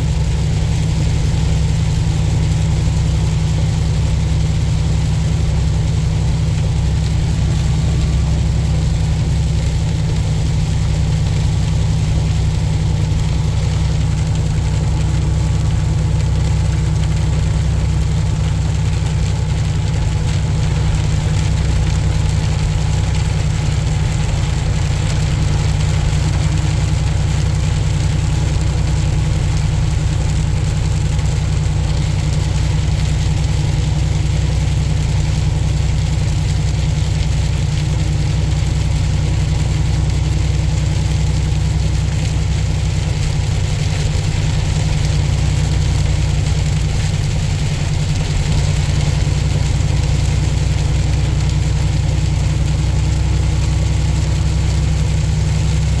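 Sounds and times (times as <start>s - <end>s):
road noise: 0.0s - 56.0s
truck engine running: 0.0s - 56.0s.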